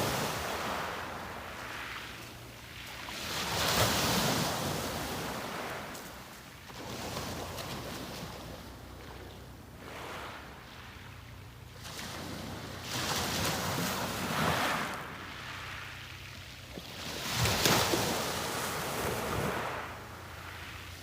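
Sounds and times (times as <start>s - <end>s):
sea waves breaking on beach: 0.0s - 9.2s, 9.8s - 21.0s.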